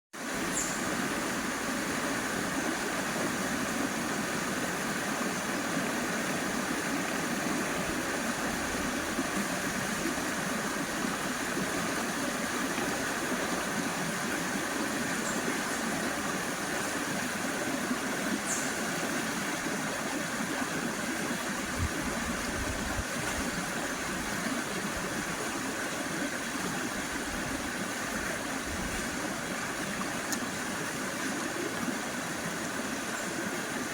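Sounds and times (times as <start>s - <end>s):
river flowing over rocks: 0.2s - 33.9s.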